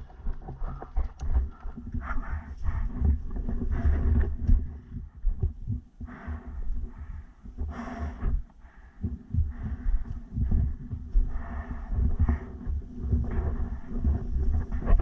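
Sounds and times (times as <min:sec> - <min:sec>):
person breathing: 0:01.4 - 0:05.1, 0:06.0 - 0:14.6.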